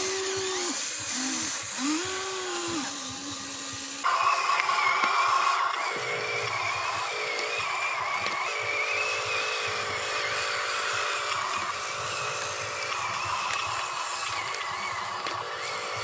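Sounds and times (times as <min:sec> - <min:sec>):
electric toy truck motor whining: 0:00.0 - 0:16.0.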